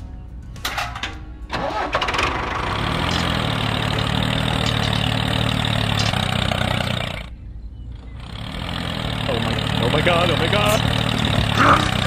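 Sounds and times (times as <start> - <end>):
engine idling: 1.5 - 12.0.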